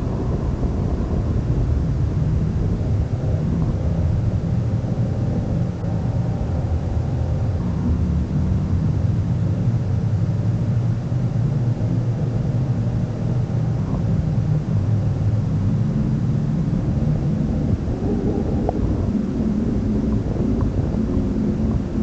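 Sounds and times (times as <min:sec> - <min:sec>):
speedboat engine drone: 0:00.0 - 0:22.0.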